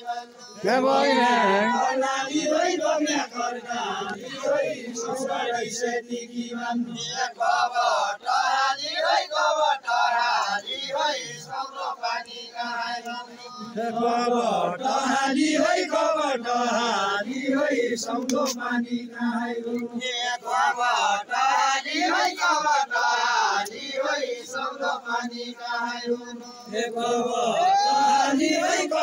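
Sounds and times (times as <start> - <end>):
men singing in unison: 0.0 - 29.0.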